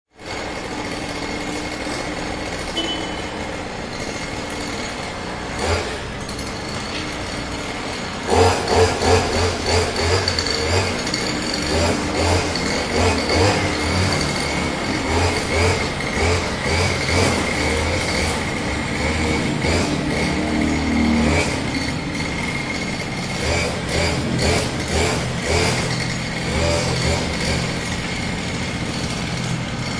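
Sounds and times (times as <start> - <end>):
lawn mower engine running: 0.2 - 29.9.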